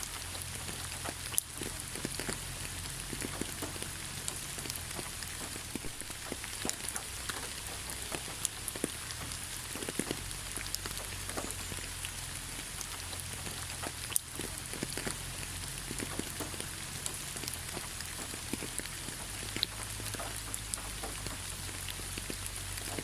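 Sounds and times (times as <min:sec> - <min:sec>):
raindrops tapping on leaves: 0:00.0 - 0:23.0
steady rain hiss: 0:00.0 - 0:23.0.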